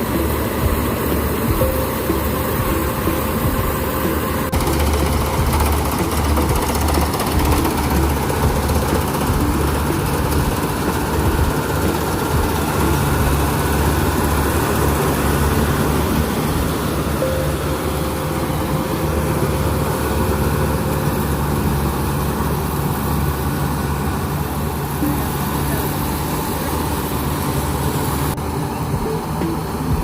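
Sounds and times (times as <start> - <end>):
combine harvester engine humming: 0.0 - 30.0.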